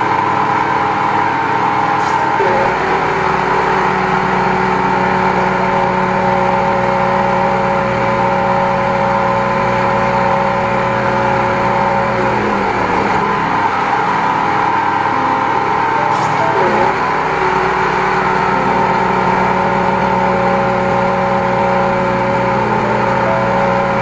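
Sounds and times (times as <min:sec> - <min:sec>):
sewer jetter engine running: 0:00.0 - 0:24.0.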